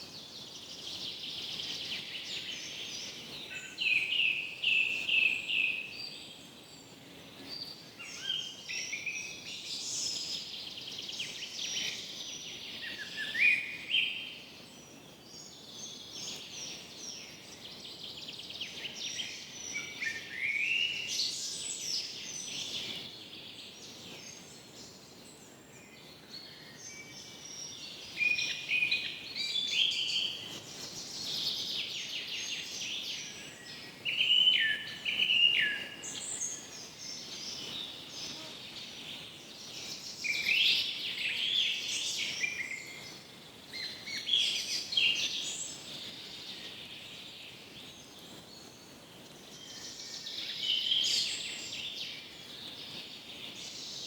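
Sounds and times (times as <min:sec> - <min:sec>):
birds singing: 0:00.0 - 0:54.0
faint background hiss: 0:00.0 - 0:54.0.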